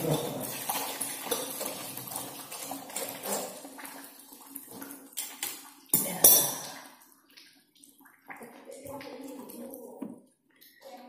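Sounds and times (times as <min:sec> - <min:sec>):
water splashing from pipe: 0:00.0 - 0:10.0.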